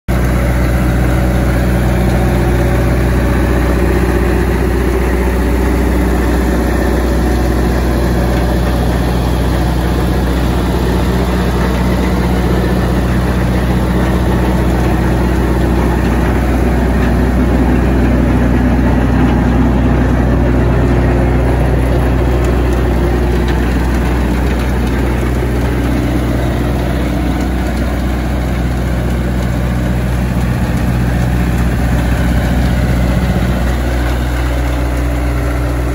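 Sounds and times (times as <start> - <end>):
diesel engine idling: 0.1 - 35.9.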